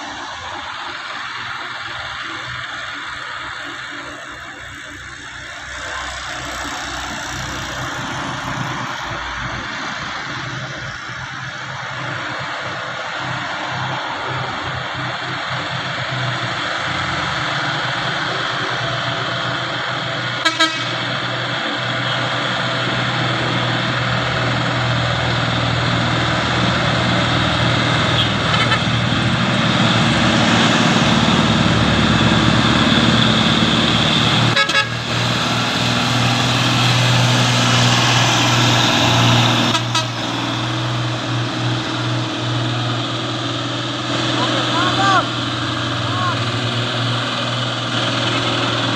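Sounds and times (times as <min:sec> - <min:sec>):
truck engine roaring: 0:00.0 - 0:48.9.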